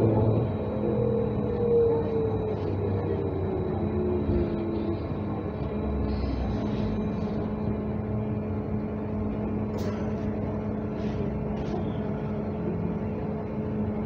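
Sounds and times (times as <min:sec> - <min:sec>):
electric hum: 0:00.0 - 0:14.0
trolleybus rumble: 0:00.0 - 0:14.0.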